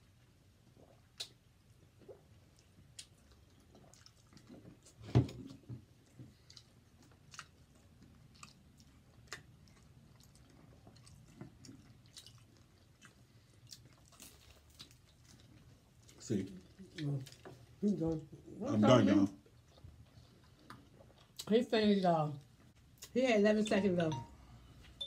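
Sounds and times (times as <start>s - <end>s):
people chewing and biting egg rolls: 0.0s - 21.6s.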